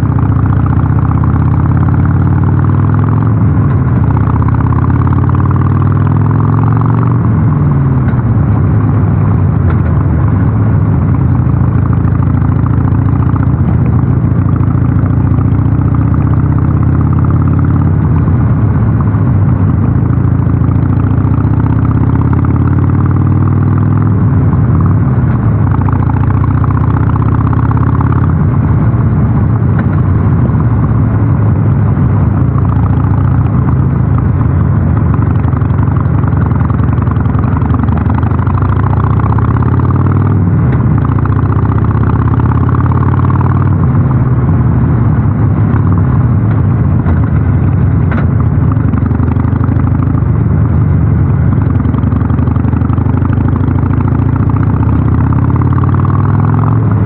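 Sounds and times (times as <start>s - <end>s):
motorcycle engine exhaust note: 0.0s - 57.0s.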